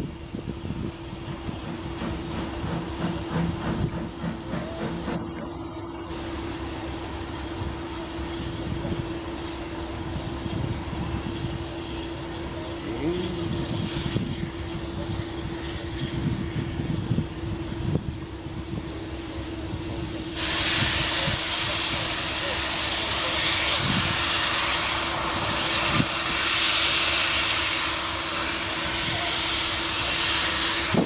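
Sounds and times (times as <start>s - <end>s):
steam hissing: 0.0s - 5.2s, 6.1s - 31.0s
steam locomotive exhaust chuffs: 0.0s - 31.0s.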